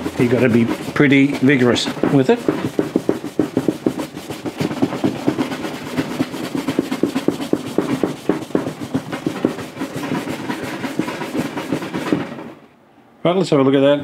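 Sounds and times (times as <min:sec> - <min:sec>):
cloth rag rubbing on wood: 0:00.0 - 0:12.6.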